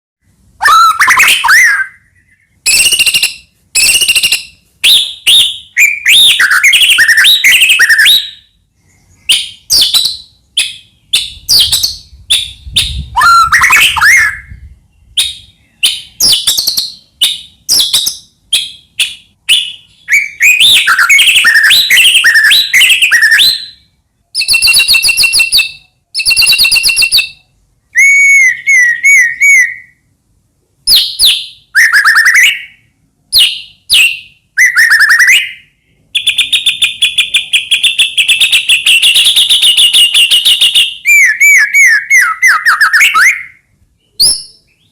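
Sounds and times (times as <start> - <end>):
songbird singing whistles and trills: 0.6 - 30.1, 30.8 - 44.9.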